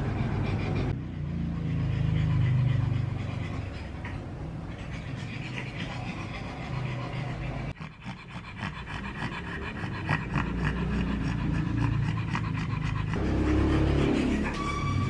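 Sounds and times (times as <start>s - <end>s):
dog panting rapidly: 0.0s - 15.0s.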